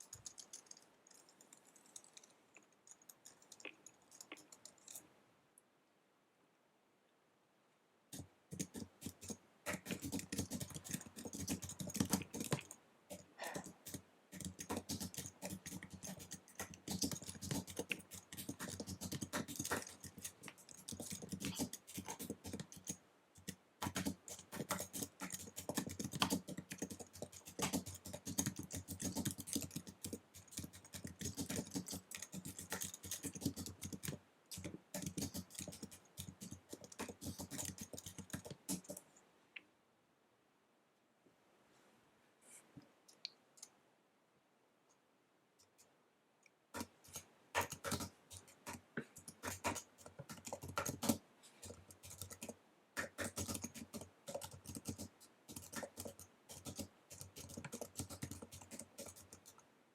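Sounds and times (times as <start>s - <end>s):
fast typing on keyboard: 0.0s - 5.0s, 8.2s - 39.0s, 46.8s - 59.6s.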